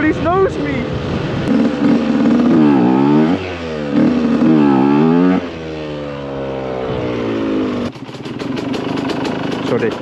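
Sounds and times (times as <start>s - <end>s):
motorcycle engine revving: 0.8s - 10.0s.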